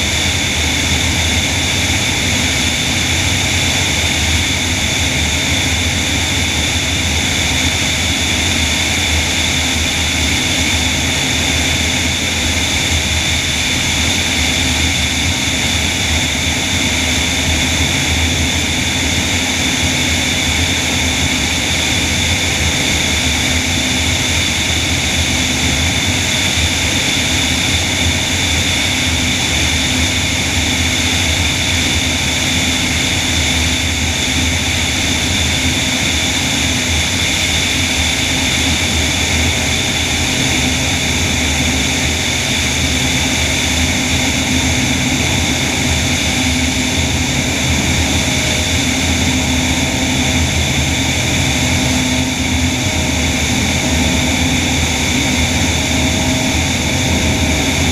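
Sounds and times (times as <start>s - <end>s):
propeller airplane drone: 0.0s - 57.9s.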